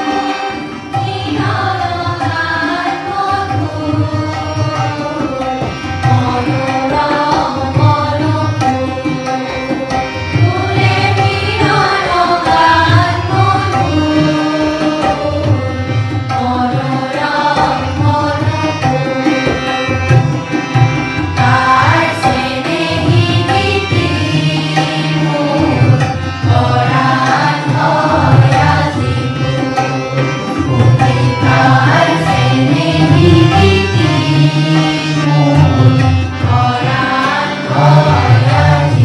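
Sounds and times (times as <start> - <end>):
group singing in unison: 0.0 - 20.4, 21.3 - 39.0
tabla: 0.0 - 39.0.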